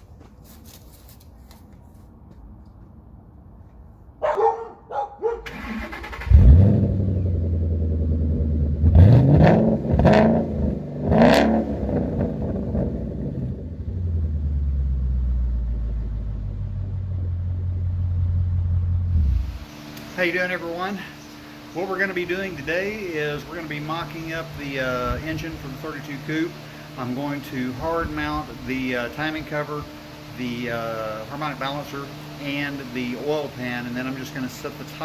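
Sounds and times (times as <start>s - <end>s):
car engine starting and revving: 5.4s - 35.0s
car engine idling: 5.5s - 35.0s.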